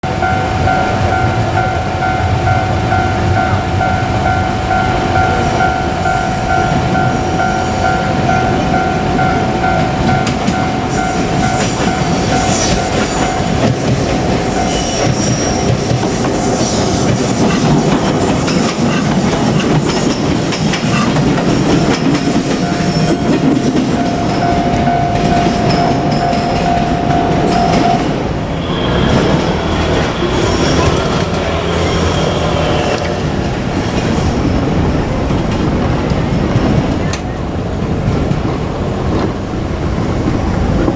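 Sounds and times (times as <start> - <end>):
level crossing warning bell: 0.0 - 33.0
train wheels clattering: 4.2 - 40.9.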